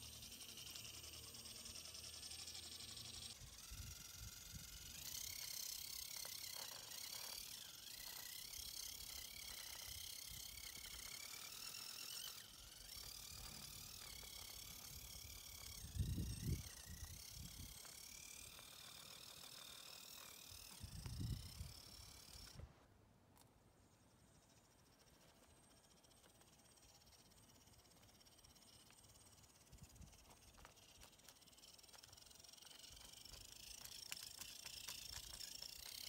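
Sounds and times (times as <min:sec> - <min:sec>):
rc car motor whining: 0:00.0 - 0:22.6, 0:24.8 - 0:36.0.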